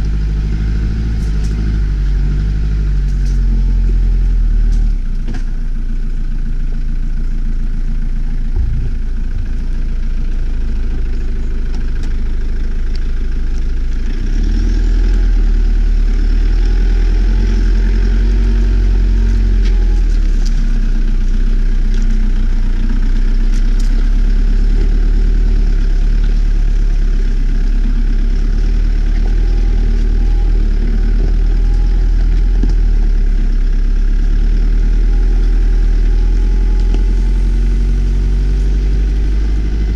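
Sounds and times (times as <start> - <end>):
stones clicking under tyres: 0.0 - 5.6, 8.4 - 39.9
truck engine rumbling: 0.0 - 39.9.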